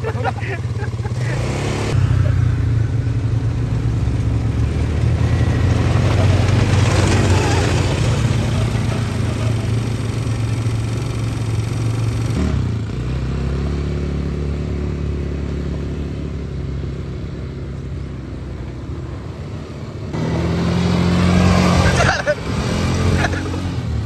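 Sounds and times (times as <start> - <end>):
quad bike engines running: 0.0 - 24.0.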